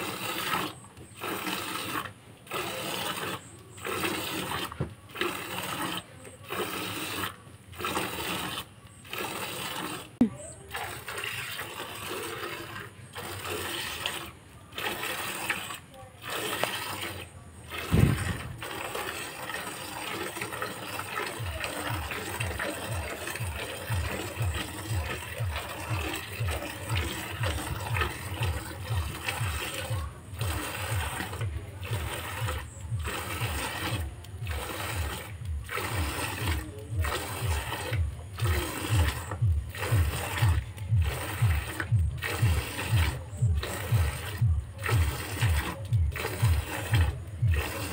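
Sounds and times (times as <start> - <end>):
milk squirting into bucket: 0.0 - 47.9.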